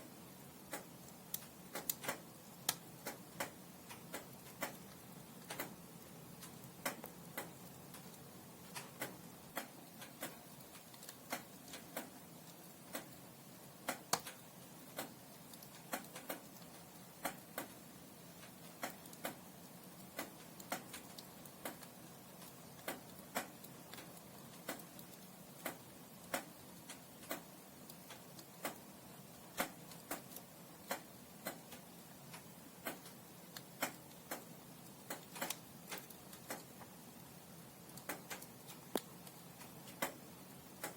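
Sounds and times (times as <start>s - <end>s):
logs crackling in fireplace: 0.0s - 40.9s.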